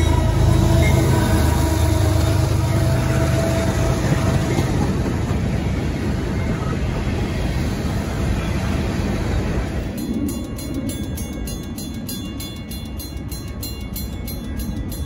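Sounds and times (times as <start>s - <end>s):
diesel locomotive engine hum: 0.0s - 15.0s
train wheels rumbling on rails: 0.0s - 15.0s.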